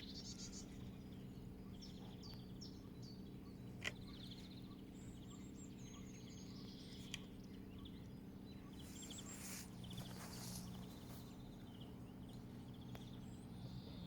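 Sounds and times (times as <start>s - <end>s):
birds chirping and trilling: 0.0s - 14.0s
faint low hum: 0.0s - 14.0s.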